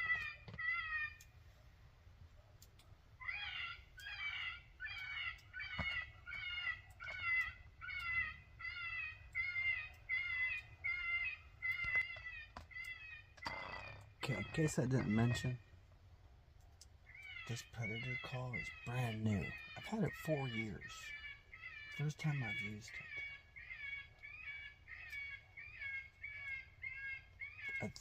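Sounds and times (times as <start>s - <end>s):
electronic animal distress call: 3.2s - 15.6s, 17.3s - 28.0s.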